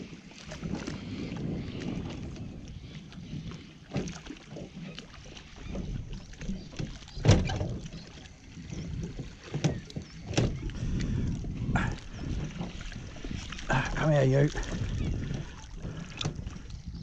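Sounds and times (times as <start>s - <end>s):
water lapping against boat hull: 0.0s - 17.0s
wind buffeting microphone: 0.0s - 17.0s.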